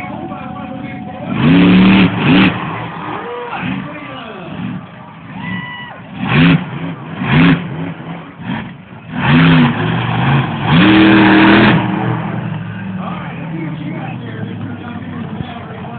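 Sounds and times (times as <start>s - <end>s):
monster truck engine revving: 0.0s - 15.9s.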